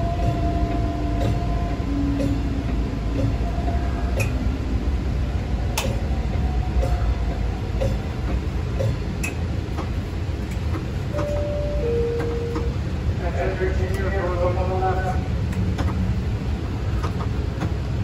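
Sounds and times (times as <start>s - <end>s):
light rail car running rumble: 0.0s - 18.0s.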